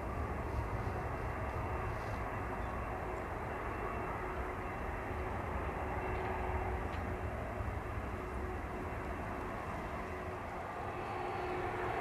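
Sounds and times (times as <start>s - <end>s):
faint jet engine whine: 0.0s - 12.0s
jet engines rumbling: 0.0s - 12.0s.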